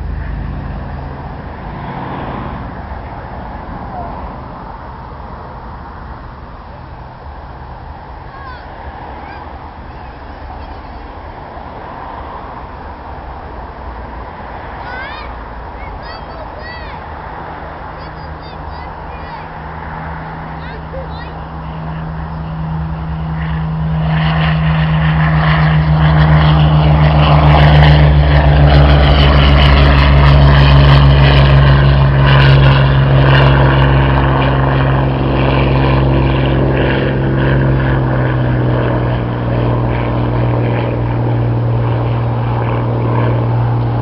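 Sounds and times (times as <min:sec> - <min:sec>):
propeller aircraft engine drone: 0:00.0 - 0:44.0.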